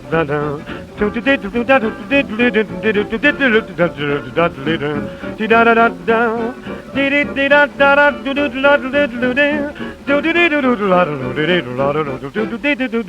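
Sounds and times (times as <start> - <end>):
jazz dance band playing: 0.0 - 12.6
lead instrument with vibrato: 0.0 - 12.8.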